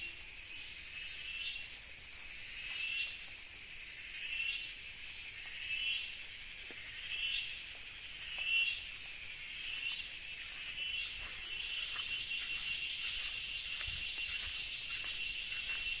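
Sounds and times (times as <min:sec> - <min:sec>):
insects calling shrilly: 0:00.0 - 0:16.0.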